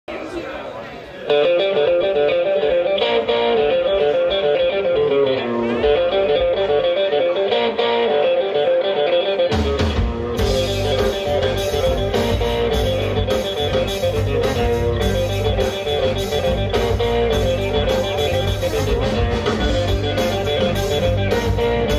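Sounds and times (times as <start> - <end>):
live band playing: 0.1 - 21.9
electric guitar melody: 1.3 - 21.9.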